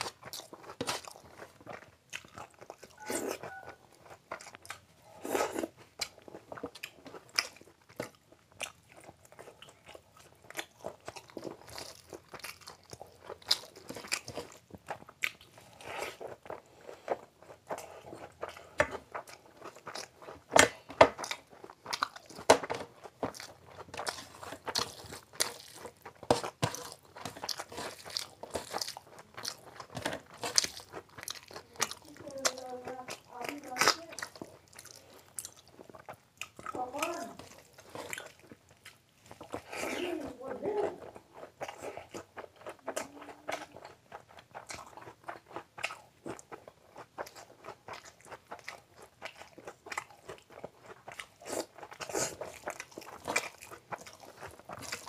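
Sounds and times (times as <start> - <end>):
crunchy chewing: 0.0 - 55.0
fingers squishing rice: 0.0 - 55.0.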